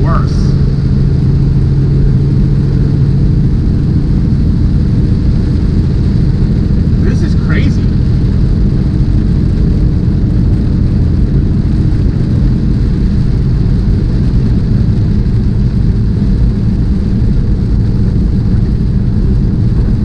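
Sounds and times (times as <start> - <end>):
road noise: 0.0 - 20.0
truck diesel engine drone: 0.0 - 20.0.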